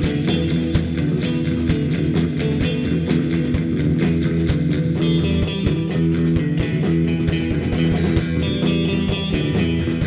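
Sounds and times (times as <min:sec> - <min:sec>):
psychedelic rock band playing: 0:00.0 - 0:10.0.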